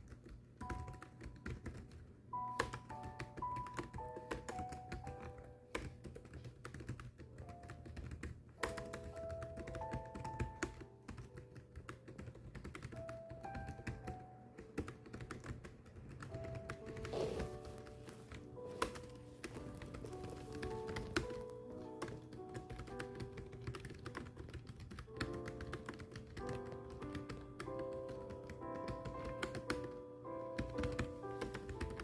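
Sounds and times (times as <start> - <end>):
rapid keyboard typing: 0.0 - 32.0
soft background music: 0.0 - 32.0.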